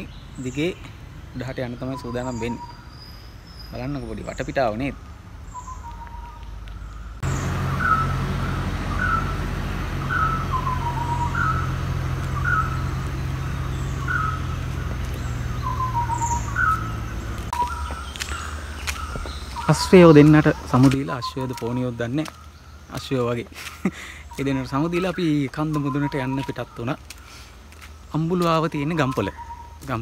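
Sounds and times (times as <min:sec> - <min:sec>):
bird calling: 0:00.0 - 0:30.0.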